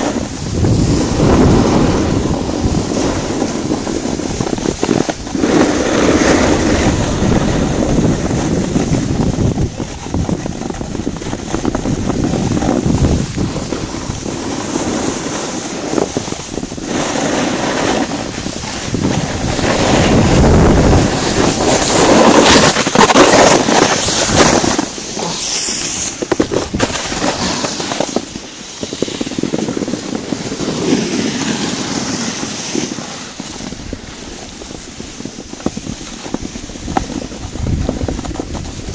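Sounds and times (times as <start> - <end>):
skis sliding over snow: 0.0 - 38.9
wind buffeting microphone: 0.0 - 38.9.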